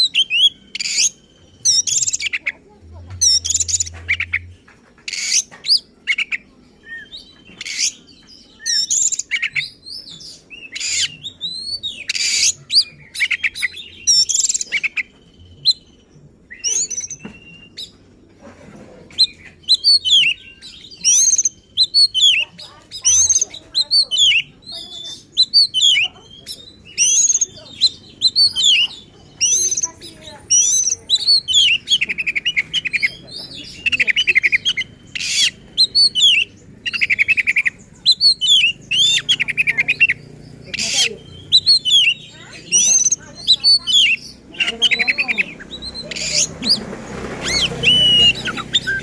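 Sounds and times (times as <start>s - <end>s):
songbird singing whistles and trills: 0.0s - 2.6s, 3.2s - 18.2s, 19.2s - 49.0s.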